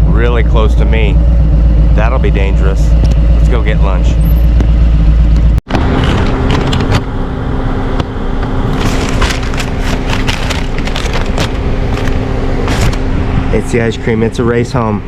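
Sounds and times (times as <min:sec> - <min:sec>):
motorcycle engine hum: 0:00.0 - 0:15.0.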